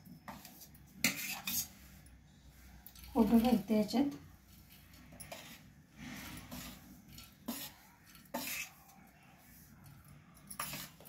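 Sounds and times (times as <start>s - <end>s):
spoon scraping steel bowl: 0.0s - 11.0s.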